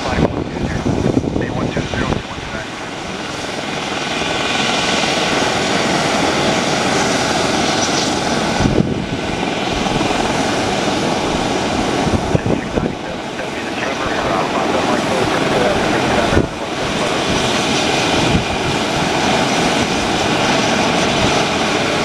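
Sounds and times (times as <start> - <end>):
turboprop engine running: 0.0 - 22.0.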